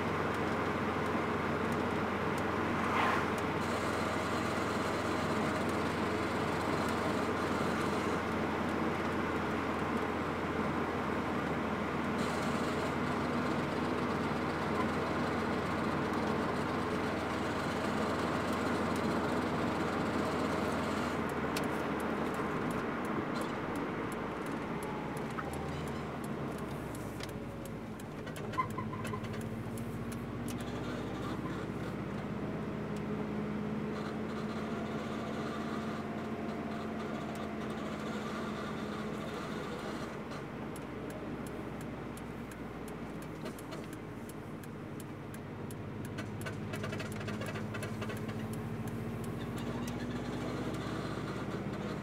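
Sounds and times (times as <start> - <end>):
wheel noise while driving: 0.0 - 52.0.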